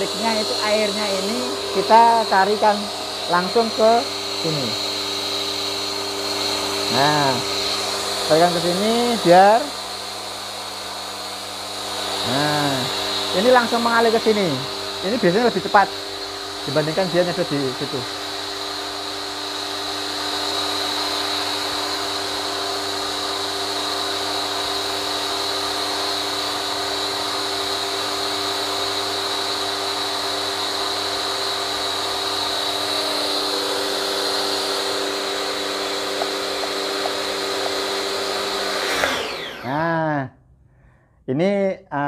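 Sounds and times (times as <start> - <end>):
pressure washer humming and whining: 0.0 - 40.0.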